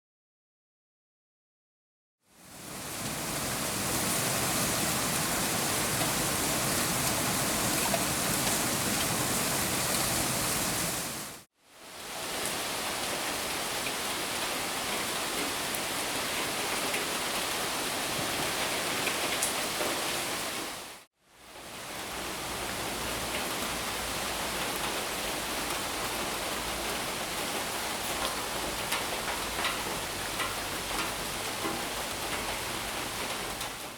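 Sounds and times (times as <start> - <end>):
steady rain hiss: 2.3 - 33.9.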